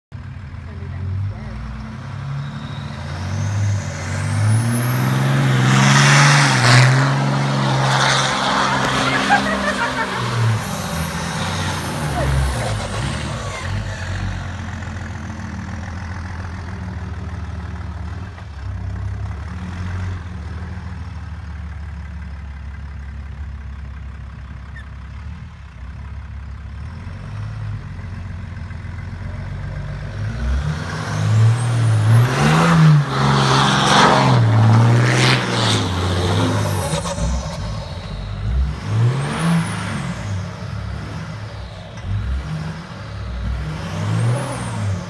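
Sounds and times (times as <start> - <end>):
diesel engine rumbling and revving: 0.0 - 45.0.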